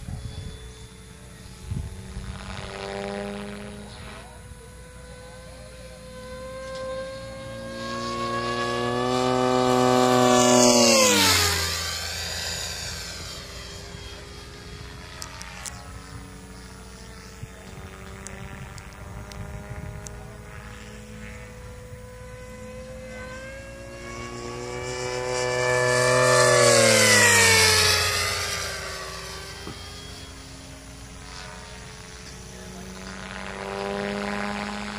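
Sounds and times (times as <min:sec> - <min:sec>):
model aircraft motor whine: 0:00.0 - 0:34.9.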